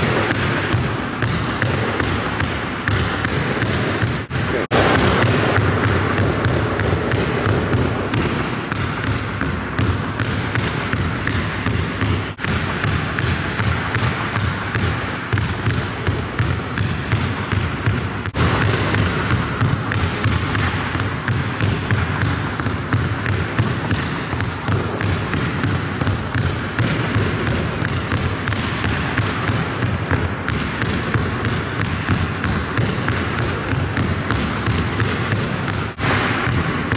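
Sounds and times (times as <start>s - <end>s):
basketballs bouncing: 0.0s - 36.9s.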